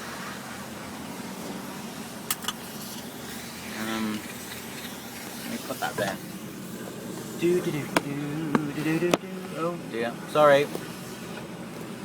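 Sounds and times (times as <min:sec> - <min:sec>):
lorry engine idling: 0:00.0 - 0:12.0.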